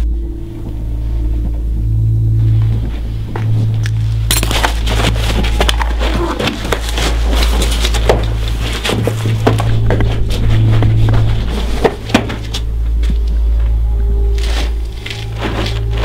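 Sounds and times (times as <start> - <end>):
low drone: 0.0 - 16.0.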